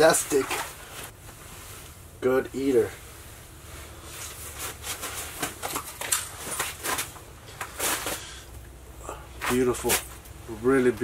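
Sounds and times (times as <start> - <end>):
handling clicks and rustles: 0.0 - 2.0, 3.8 - 11.0.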